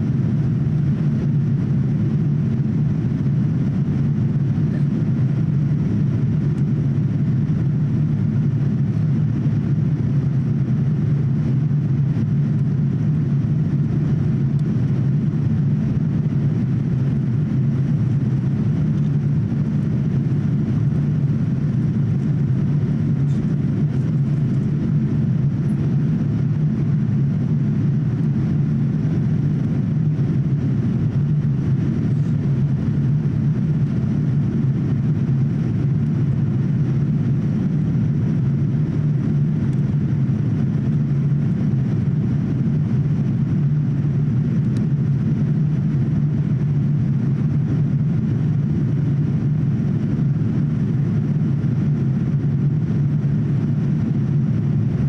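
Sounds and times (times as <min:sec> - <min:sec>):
airflow over fuselage: 0:00.0 - 0:55.0
airplane cabin engine rumble: 0:00.0 - 0:55.0.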